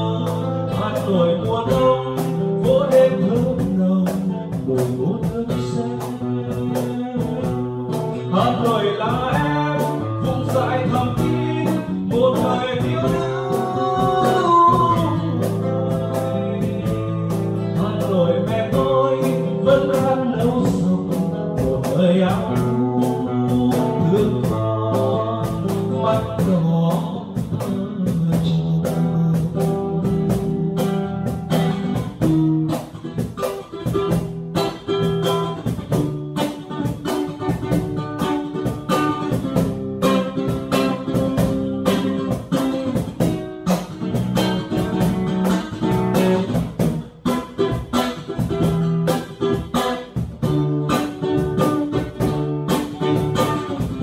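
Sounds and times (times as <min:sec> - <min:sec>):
acoustic guitar: 0:00.0 - 0:54.0
cajon beat: 0:00.0 - 0:54.0
man singing: 0:00.0 - 0:54.0.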